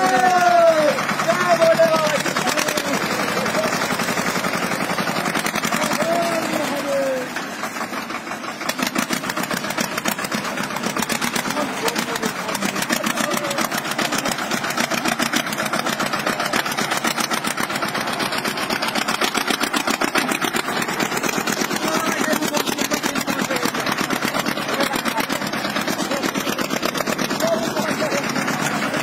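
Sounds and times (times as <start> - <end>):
tractor engine running hard: 0.0 - 29.0.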